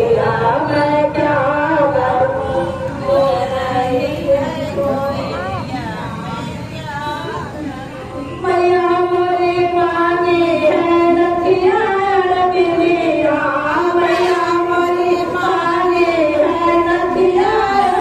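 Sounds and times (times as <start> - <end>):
woman singing devotional song: 0.0 - 18.0.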